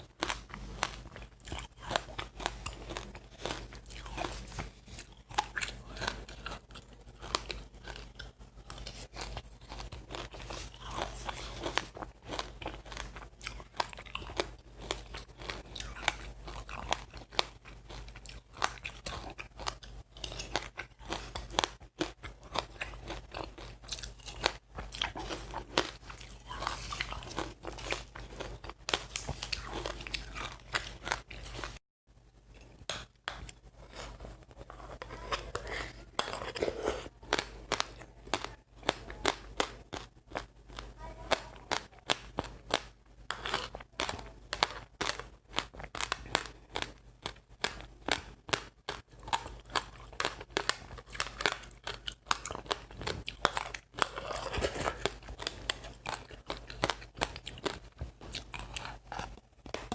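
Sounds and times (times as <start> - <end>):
crunchy seeds being chewed: 0.0 - 31.8, 32.5 - 59.9.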